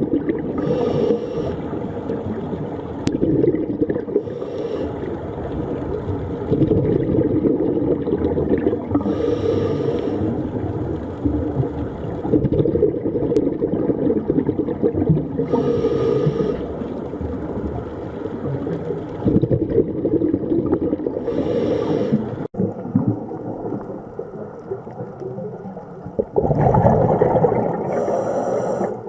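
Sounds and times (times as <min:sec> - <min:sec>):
underwater low wash: 0:00.0 - 0:29.0.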